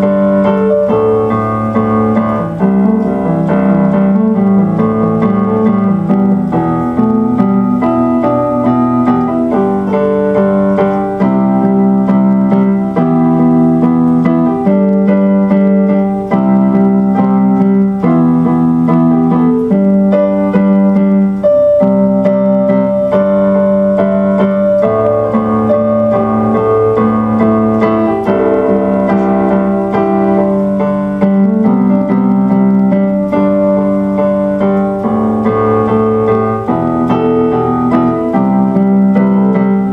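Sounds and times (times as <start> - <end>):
slow piano chords: 0.0 - 39.9.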